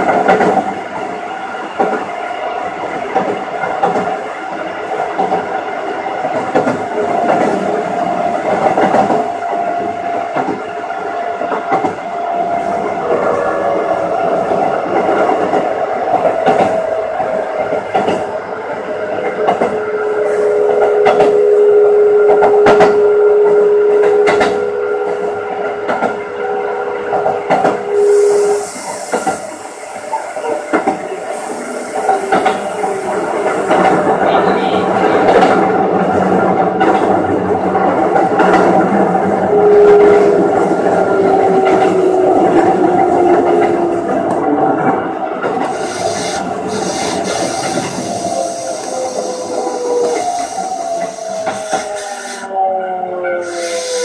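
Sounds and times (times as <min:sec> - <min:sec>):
electric train running: 0:00.0 - 0:52.6, 0:53.4 - 0:54.0.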